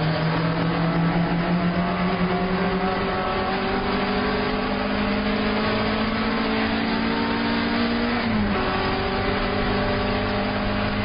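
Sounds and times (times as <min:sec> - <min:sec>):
car engine accelerating: 0:00.0 - 0:11.0
road and wind noise: 0:00.0 - 0:11.0.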